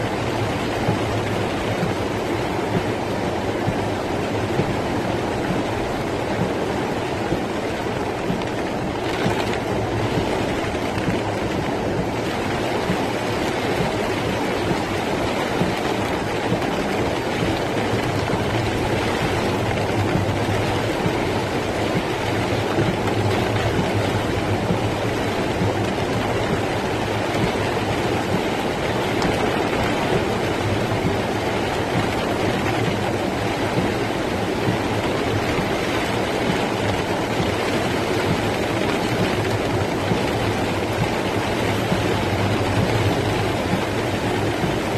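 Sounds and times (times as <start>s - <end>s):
rainwater rushing along street: 0.0s - 44.9s.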